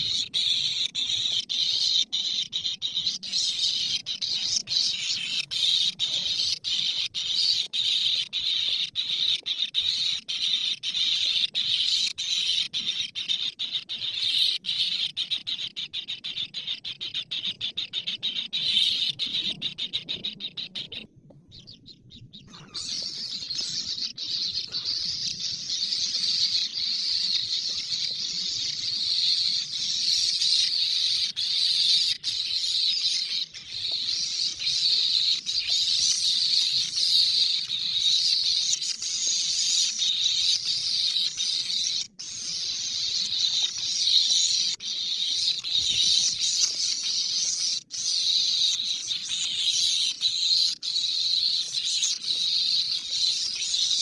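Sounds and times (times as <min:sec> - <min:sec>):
dense high-pitched chirping: 0:00.0 - 0:54.0.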